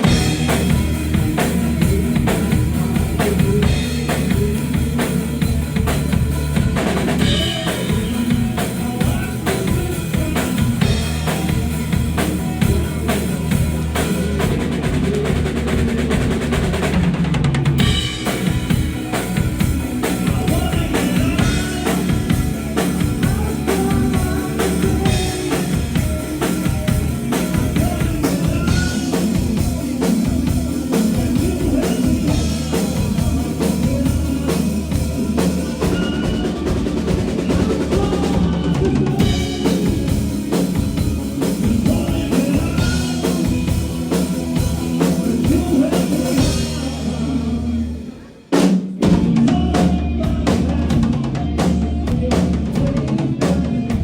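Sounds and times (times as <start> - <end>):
drum kit: 0.0 - 54.0
rock band playing: 0.0 - 54.0.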